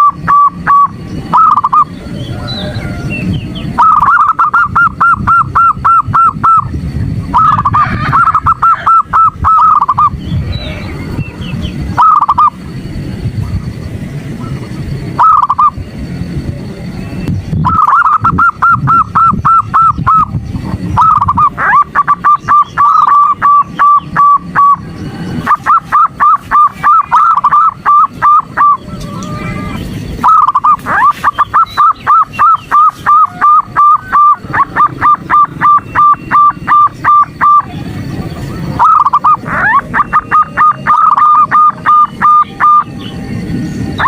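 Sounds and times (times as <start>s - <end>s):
dove cooing: 0.0s - 15.8s, 17.5s - 44.0s.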